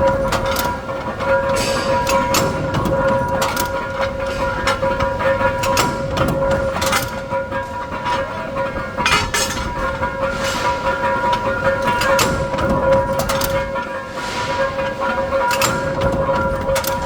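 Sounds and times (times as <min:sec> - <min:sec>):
machinery whining: 0:00.0 - 0:17.0
metallic knocks and clanks: 0:00.0 - 0:17.0.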